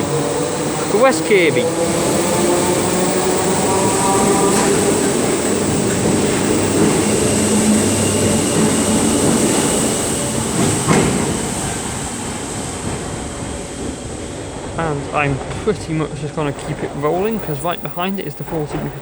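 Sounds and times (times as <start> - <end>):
electric train running: 0.0 - 19.0.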